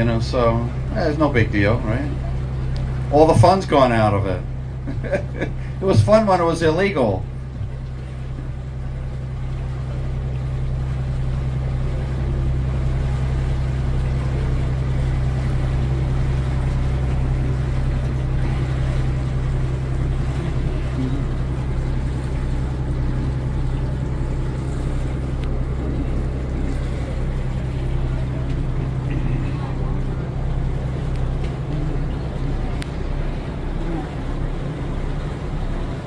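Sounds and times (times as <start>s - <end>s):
boat engine droning: 0.0s - 36.0s
rushing water: 0.0s - 36.0s
wind: 0.0s - 36.0s.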